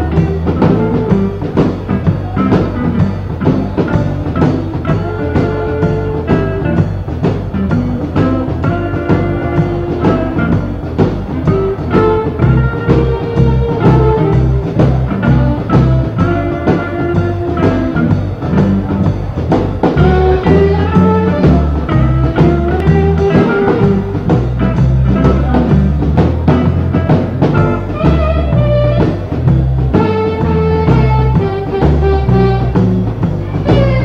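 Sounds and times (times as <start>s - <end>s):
bass line: 0.0s - 34.0s
drum kit steady beat: 0.0s - 34.0s
electric guitar lines: 0.0s - 34.0s.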